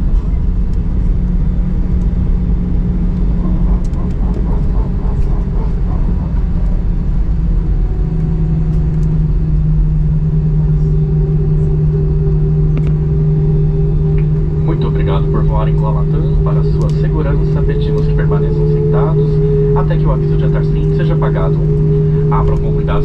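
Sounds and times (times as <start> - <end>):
jet engine and airframe rumble: 0.0 - 23.0.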